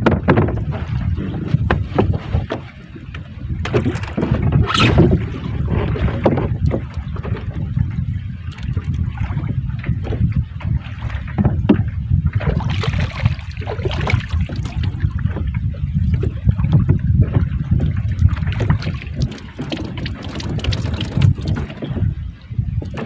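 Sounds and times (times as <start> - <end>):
water splashing and sloshing: 0.0 - 23.0
wind buffeting microphone: 0.0 - 23.0.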